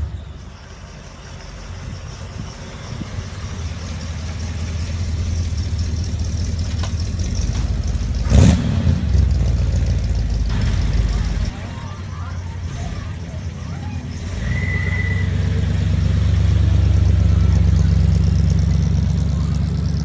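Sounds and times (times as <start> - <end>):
car engine burbling: 0.0 - 20.0.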